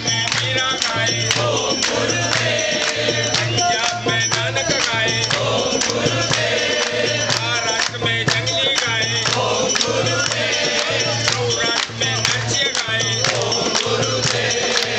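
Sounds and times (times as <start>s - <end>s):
group singing a chant: 0.0s - 14.9s
jingling hand percussion: 0.0s - 14.9s.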